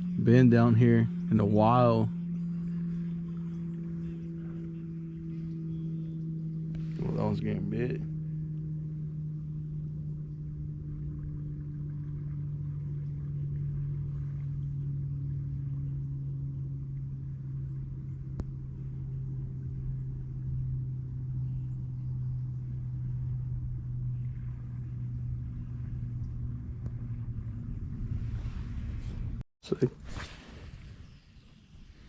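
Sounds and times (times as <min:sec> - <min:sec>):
engine droning: 0:00.0 - 0:32.0.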